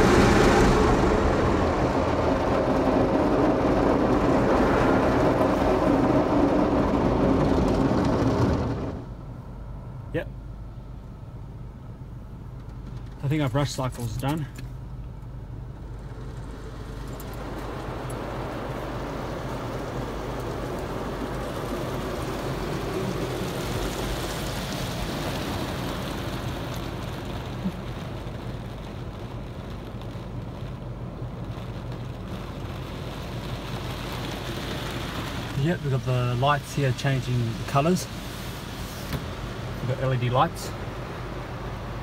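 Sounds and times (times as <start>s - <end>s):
water spray hitting car: 0.0s - 9.1s, 15.8s - 42.0s.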